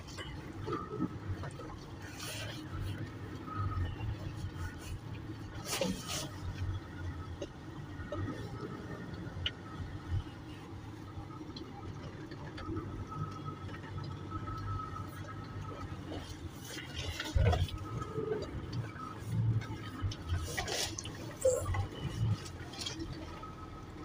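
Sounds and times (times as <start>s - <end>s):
engine and road rumble: 0.0s - 24.0s
water splashing under tyres: 0.0s - 24.0s.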